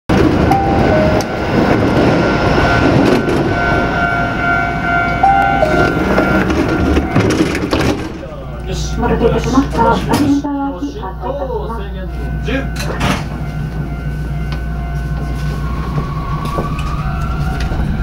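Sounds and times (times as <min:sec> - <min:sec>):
train rumbling on rails: 0:00.1 - 0:18.0.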